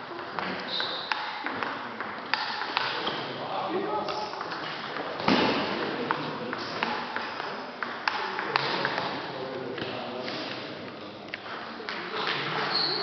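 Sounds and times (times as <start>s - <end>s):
faint echoing voices: 0.0s - 13.0s.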